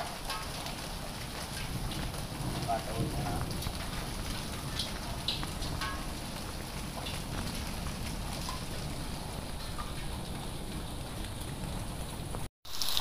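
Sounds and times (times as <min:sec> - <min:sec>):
hail and rain pattering: 0:00.0 - 0:13.0
hailstones ticking on pavement: 0:00.0 - 0:13.0.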